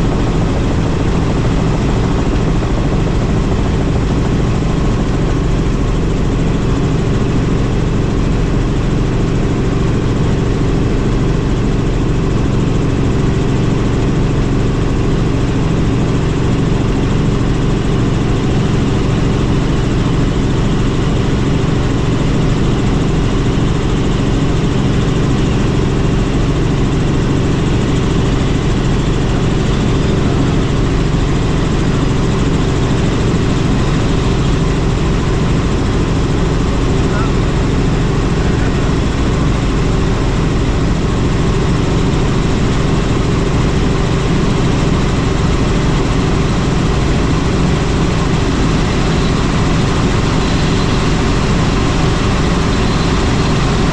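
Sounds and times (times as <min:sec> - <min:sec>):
helicopter rotor drone: 0:00.0 - 0:53.9.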